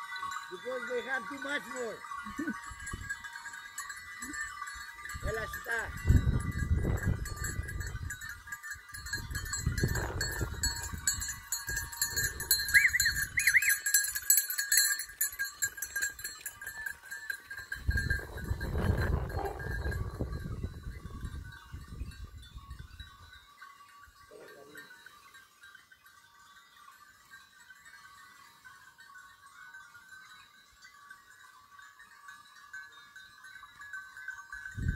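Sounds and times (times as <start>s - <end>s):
goat bells clanking: 0.0s - 34.9s.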